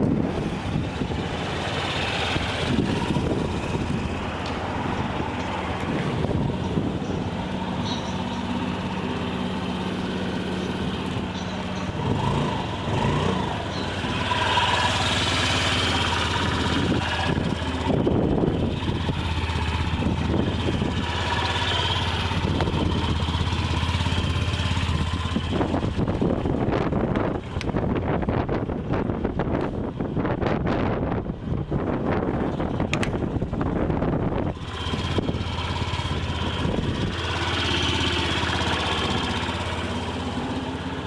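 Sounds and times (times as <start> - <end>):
scooter engine running: 0.0 - 30.4, 31.2 - 41.0.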